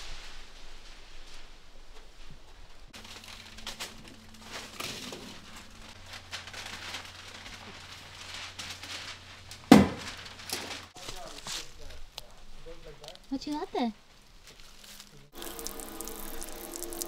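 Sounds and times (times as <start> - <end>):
plastic wrap rustling and crinkling: 0.0 - 17.0.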